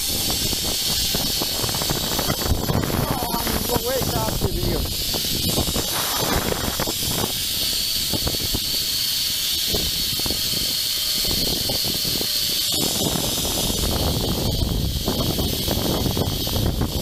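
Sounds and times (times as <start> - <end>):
wind buffeting microphone: 0.0 - 17.0
zipline pulleys whining on cable: 0.0 - 17.0.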